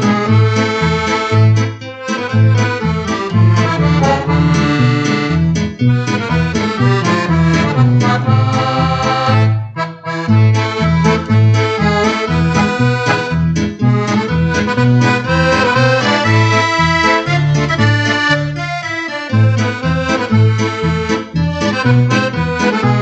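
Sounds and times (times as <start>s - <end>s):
accordion playing a melody: 0.0s - 23.0s.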